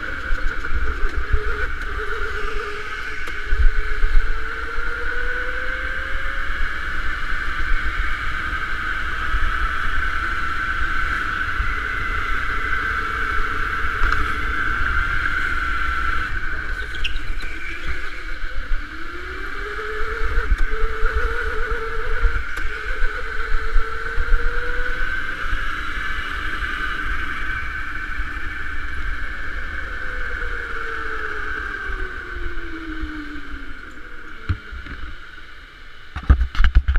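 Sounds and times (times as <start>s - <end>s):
electric go-kart motor whining: 0.0s - 35.5s.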